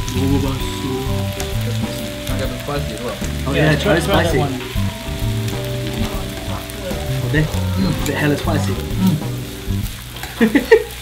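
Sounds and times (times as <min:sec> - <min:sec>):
background music: 0:00.0 - 0:10.1
meat sizzling on grill pan: 0:00.0 - 0:11.0.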